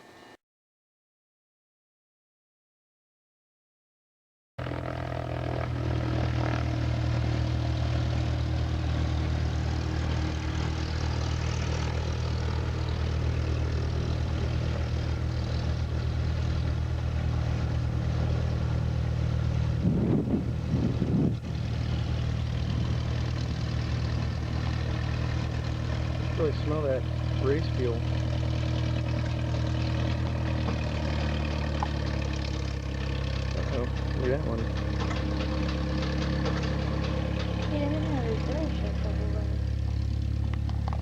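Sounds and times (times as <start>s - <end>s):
propeller plane engine idling: 4.6s - 41.0s.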